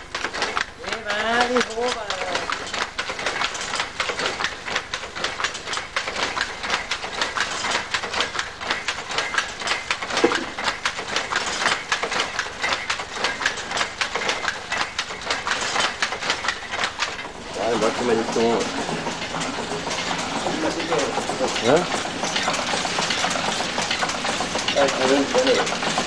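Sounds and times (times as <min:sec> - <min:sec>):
weaving loom clattering: 0:00.0 - 0:26.0.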